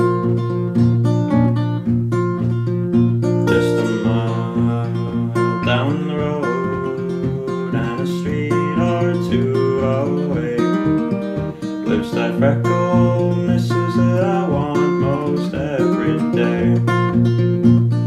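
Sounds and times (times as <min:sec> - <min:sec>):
acoustic guitar plucking: 0:00.0 - 0:18.0.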